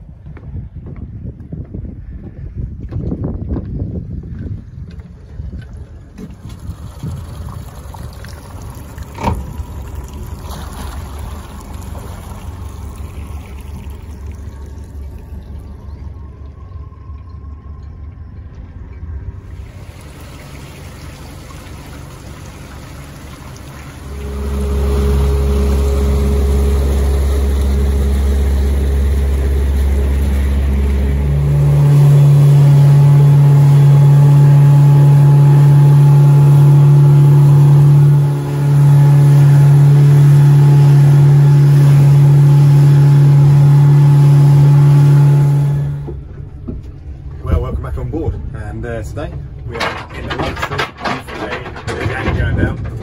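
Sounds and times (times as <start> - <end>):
outboard motor running: 3.8 - 53.0.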